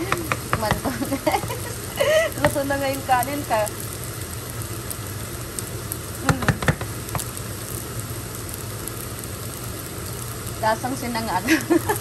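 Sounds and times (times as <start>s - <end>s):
rice sizzling in a pan: 0.0s - 12.0s
steady low hum: 0.0s - 12.0s.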